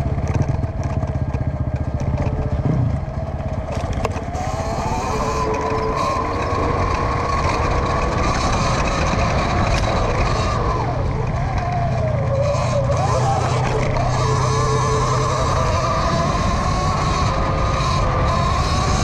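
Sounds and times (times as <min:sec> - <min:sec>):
electric motor whining: 0:00.0 - 0:19.0
steady rumbling noise: 0:00.0 - 0:19.0.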